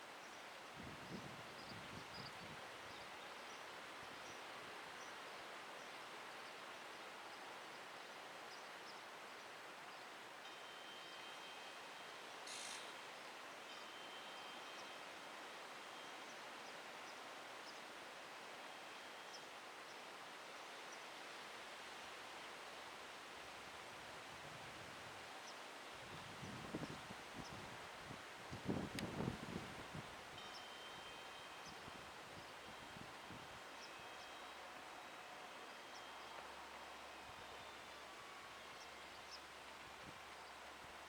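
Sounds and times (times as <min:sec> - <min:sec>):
outdoor background hiss: 0:00.0 - 0:41.0.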